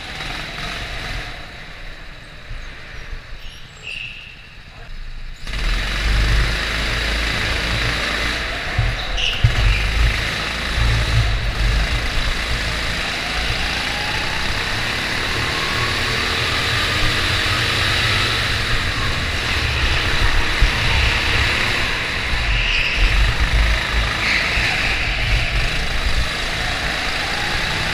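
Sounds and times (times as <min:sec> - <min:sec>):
kart engine revving: 0:00.0 - 0:02.8, 0:05.1 - 0:27.9.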